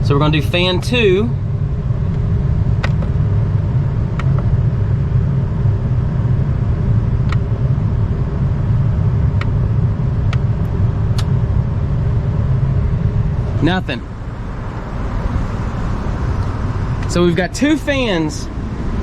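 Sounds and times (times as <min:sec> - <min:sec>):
air conditioning unit rumbling: 0:00.0 - 0:19.0.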